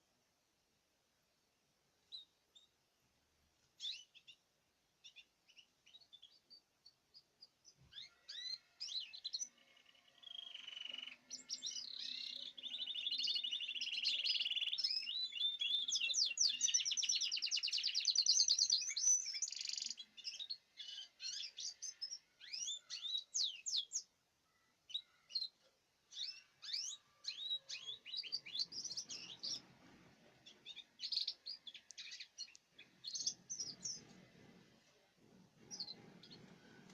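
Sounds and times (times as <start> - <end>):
canary chirping and trilling: 2.0 - 2.8, 3.7 - 36.9.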